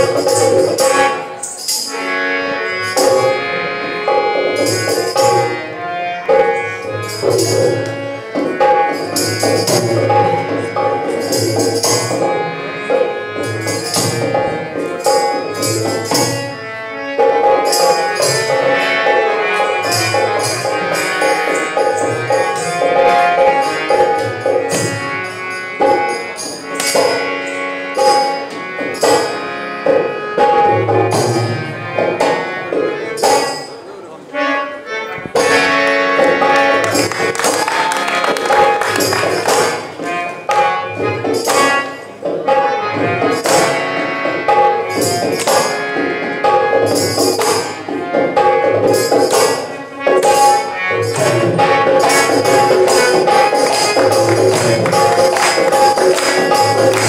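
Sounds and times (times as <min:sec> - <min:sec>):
hand drum beat: 0:00.0 - 0:01.8, 0:07.2 - 0:16.6, 0:17.2 - 0:33.7, 0:35.2 - 0:57.0
jingling percussion: 0:00.0 - 0:34.0, 0:35.2 - 0:57.0
harmonium melody: 0:00.0 - 0:57.0.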